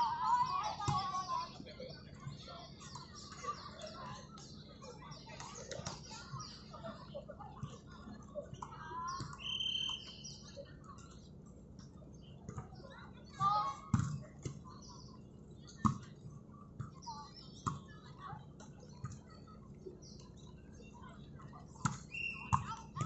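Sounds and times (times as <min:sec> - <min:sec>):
faint distant voices: 0:00.0 - 0:23.0.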